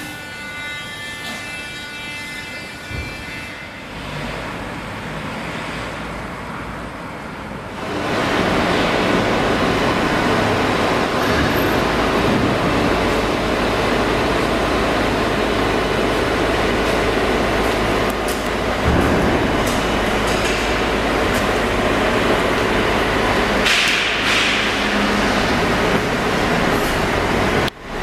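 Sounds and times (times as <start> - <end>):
faint street traffic: 0.0 - 28.0
car park rushing noise with hum: 3.8 - 28.0.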